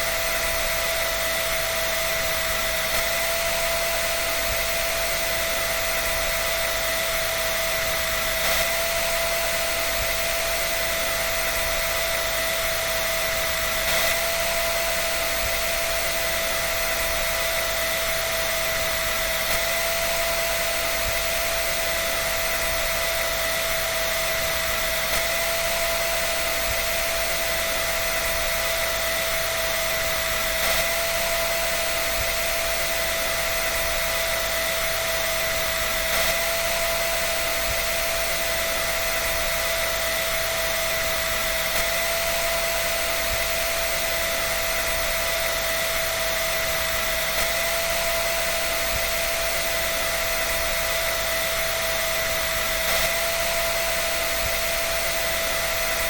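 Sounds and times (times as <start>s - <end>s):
electric dryer running: 0.0s - 56.0s.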